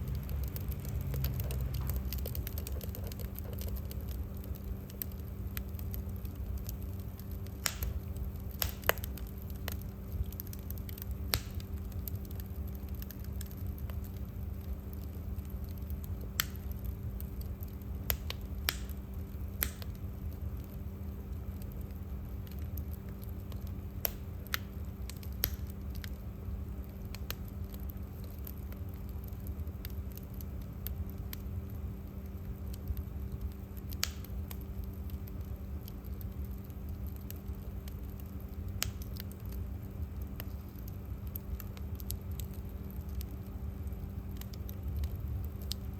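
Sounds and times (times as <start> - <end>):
faint steady hum: 0.0 - 45.9
wood fire crackling: 0.0 - 45.9.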